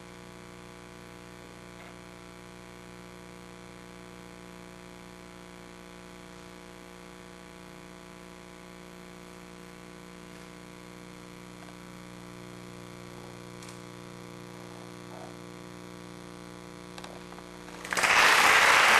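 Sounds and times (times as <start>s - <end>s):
electrical mains hum: 0.0s - 18.9s.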